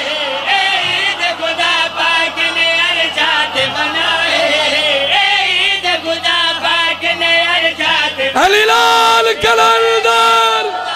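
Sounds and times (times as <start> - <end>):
men chanting together: 0.0 - 10.9.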